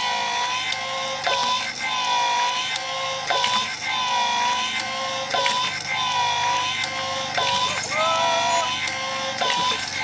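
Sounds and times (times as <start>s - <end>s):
electric suction pump whining: 0.0s - 10.0s.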